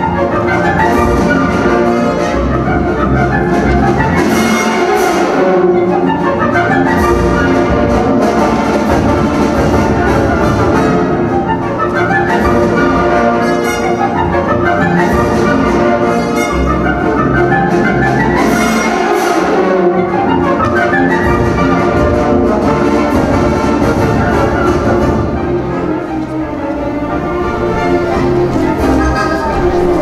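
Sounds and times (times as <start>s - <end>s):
brass-led orchestral music: 0.0s - 30.0s.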